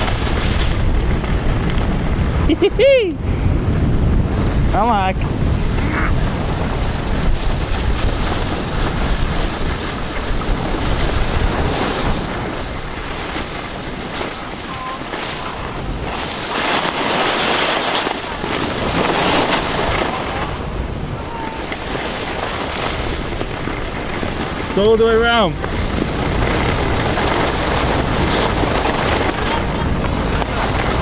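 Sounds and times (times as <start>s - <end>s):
skis scraping on snow: 0.0s - 3.0s, 4.1s - 31.0s
wind buffeting microphone: 0.0s - 31.0s.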